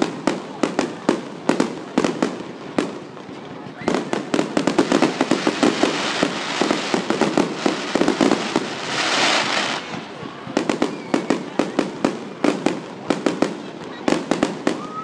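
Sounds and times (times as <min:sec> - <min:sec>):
fireworks crackling: 0:00.0 - 0:15.0
fireworks hissing rush: 0:00.0 - 0:15.0
fireworks sharp pops: 0:00.0 - 0:15.0.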